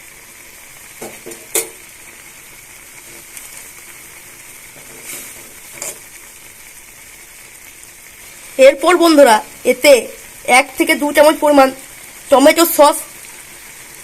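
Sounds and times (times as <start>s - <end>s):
noodles simmering bubbling hiss: 0.0s - 14.0s.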